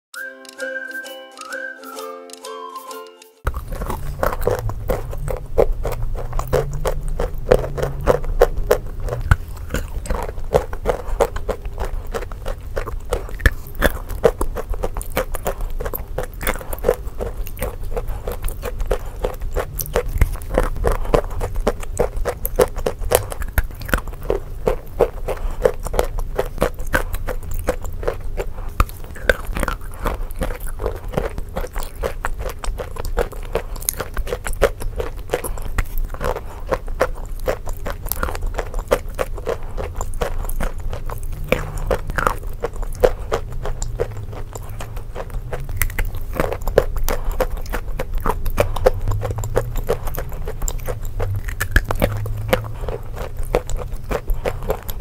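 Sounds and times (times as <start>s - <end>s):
wet mouth sounds: 0.2s - 55.0s
chewing and soft crunching: 3.4s - 55.0s.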